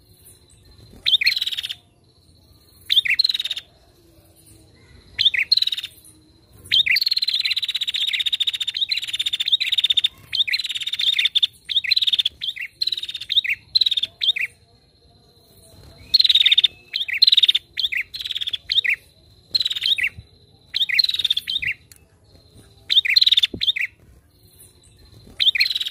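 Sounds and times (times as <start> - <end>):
bird chirping in rapid bursts: 0.1 - 3.7, 5.0 - 25.9.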